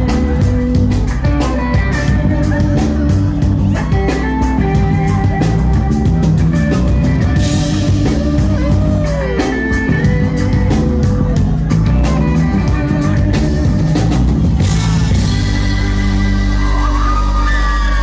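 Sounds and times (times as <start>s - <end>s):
bass guitar: 0.0s - 18.0s
electric guitar bending notes: 0.0s - 18.0s
steady drum beat: 0.0s - 18.0s.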